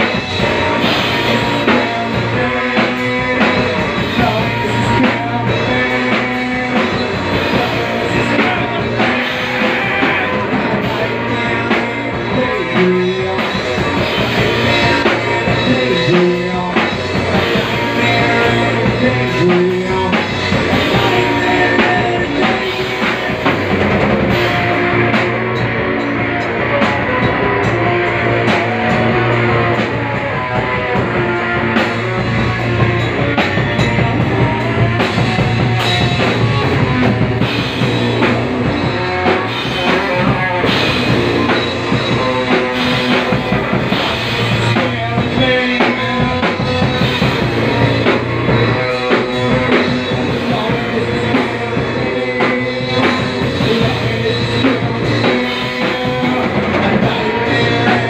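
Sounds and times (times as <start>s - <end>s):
bass guitar: 0.0s - 58.0s
drum kit with cymbals: 0.0s - 58.0s
electric guitar: 0.0s - 58.0s.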